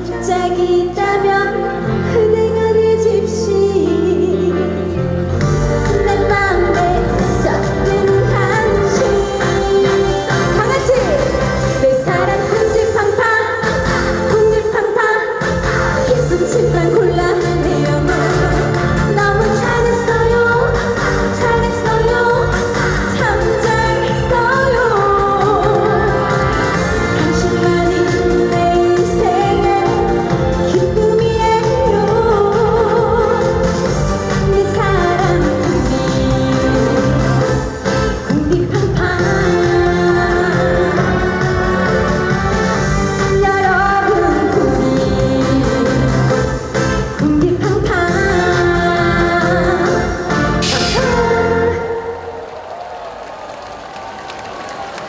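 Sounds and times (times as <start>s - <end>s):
amplified backing music with beat: 0.0s - 52.0s
woman singing: 0.0s - 52.4s.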